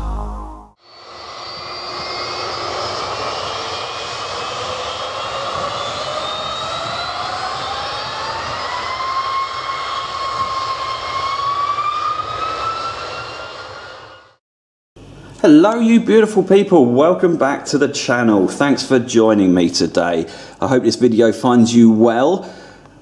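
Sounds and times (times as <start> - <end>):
jet engines spooling up: 0.0 - 14.4, 15.0 - 23.0.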